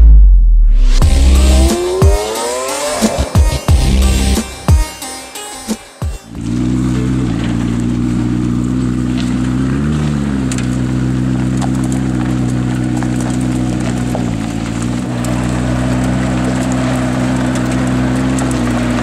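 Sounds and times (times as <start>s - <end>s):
car engine running at low revs: 0.0s - 4.6s, 6.3s - 19.0s.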